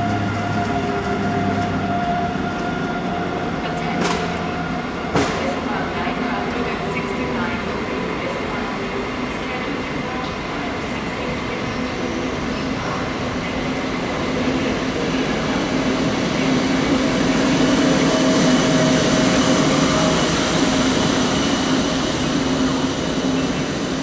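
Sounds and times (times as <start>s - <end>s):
train electric hum: 0.0s - 24.0s
train rolling rumble: 0.0s - 24.0s.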